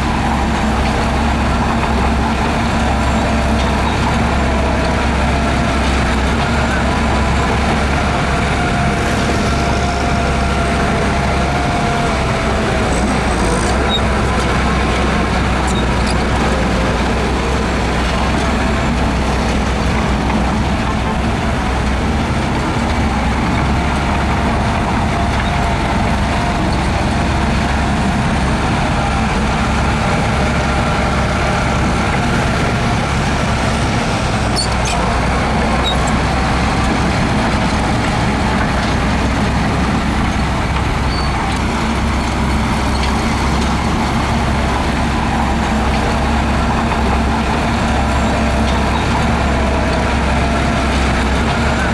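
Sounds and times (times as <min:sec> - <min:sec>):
diesel engine rumble: 0:00.0 - 0:51.9.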